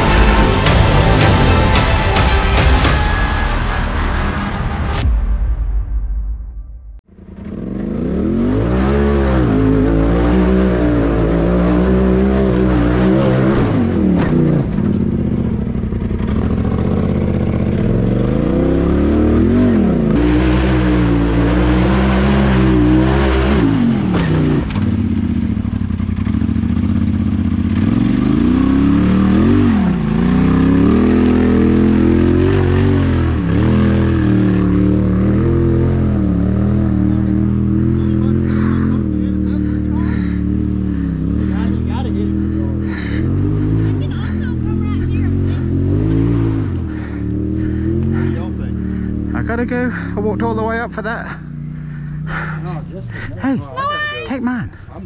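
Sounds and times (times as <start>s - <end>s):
off-road vehicle engine revving: 0.0s - 4.8s, 7.1s - 55.0s.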